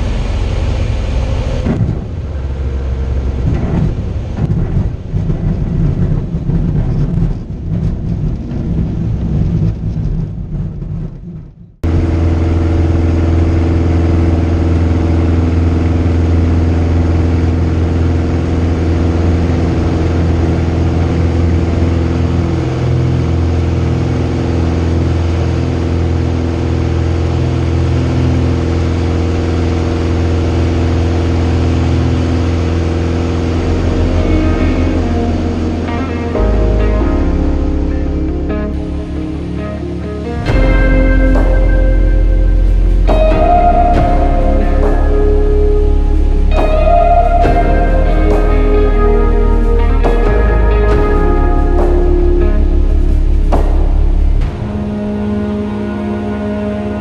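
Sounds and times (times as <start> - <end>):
light aircraft engine and propeller: 0.0 - 10.9, 11.8 - 57.0.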